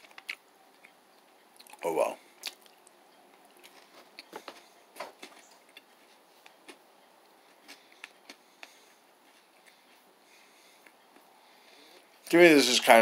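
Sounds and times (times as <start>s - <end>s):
person chewing granola bar: 0.0s - 11.3s.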